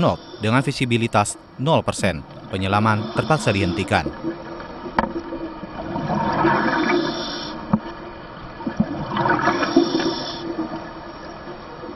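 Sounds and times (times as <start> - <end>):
underwater exhaled bubbles: 2.2 - 11.9.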